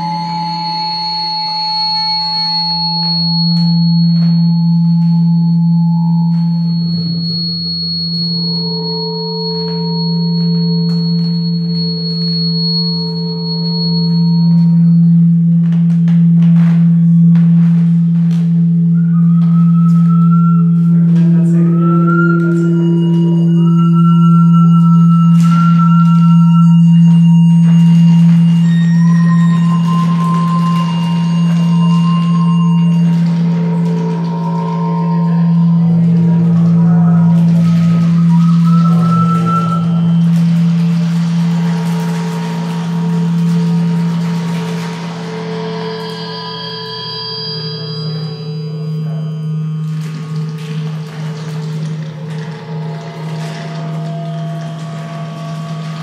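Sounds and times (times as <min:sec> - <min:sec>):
high ringing feedback tones: 0:00.0 - 0:56.0
steady low feedback tone: 0:00.0 - 0:56.0.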